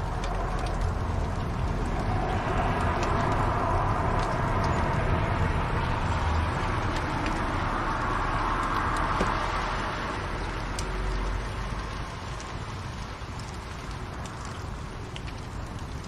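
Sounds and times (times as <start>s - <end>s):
fire crackles: 0.0s - 16.0s
fireplace fire hissing and rumbling: 0.0s - 16.0s.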